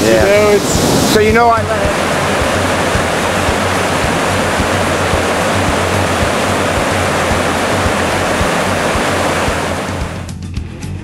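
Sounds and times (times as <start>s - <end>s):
river rapids roaring: 0.0s - 10.3s.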